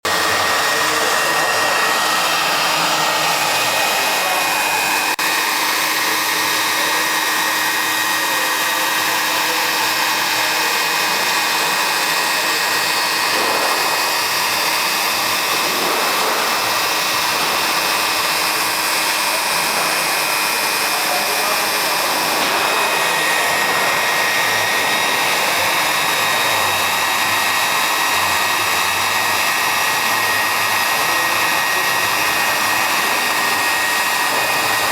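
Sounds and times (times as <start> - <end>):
plastic welder blowing hiss: 0.1 - 34.9.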